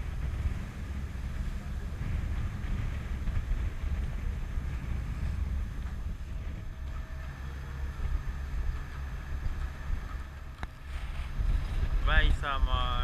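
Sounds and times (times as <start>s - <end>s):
ship engine rumble: 0.0s - 13.0s
wind buffeting microphone: 0.0s - 13.0s.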